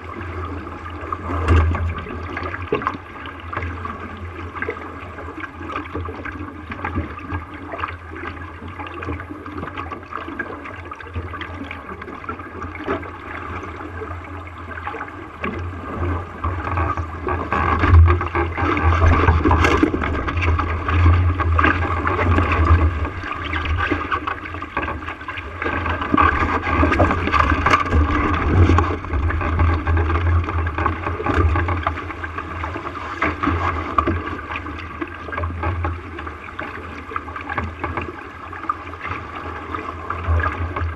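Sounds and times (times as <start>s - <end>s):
water rushing along boat hull: 0.0s - 40.9s.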